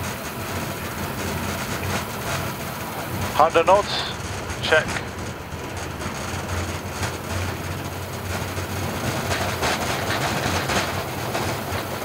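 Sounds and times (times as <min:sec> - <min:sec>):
jet engines rumbling on takeoff: 0:00.0 - 0:12.0
runway bumps: 0:00.0 - 0:12.0.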